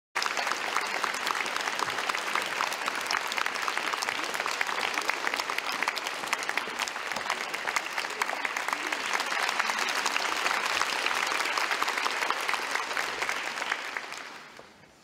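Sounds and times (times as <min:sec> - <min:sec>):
audience applauding: 0:00.2 - 0:15.0.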